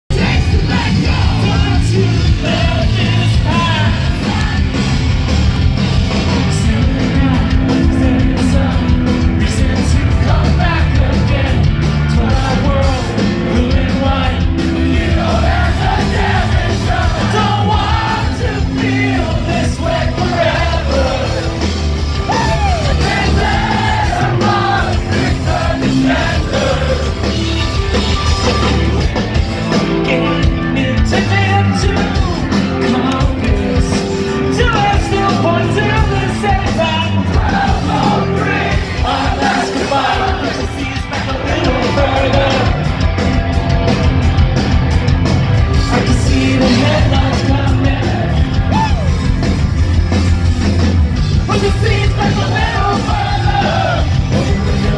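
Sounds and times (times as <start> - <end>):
voices singing and yelling: 0.1 - 49.7, 51.3 - 54.9
live rock band playing: 0.1 - 54.9.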